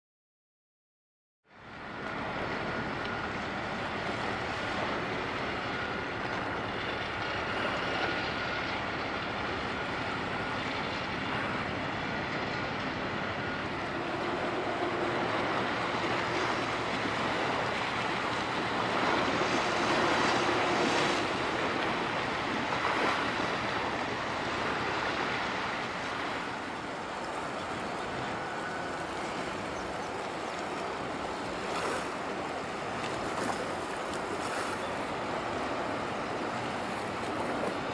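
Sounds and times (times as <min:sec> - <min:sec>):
wind: 0:01.4 - 0:37.9
faint steady hums: 0:01.5 - 0:37.9
water noise: 0:01.5 - 0:37.9.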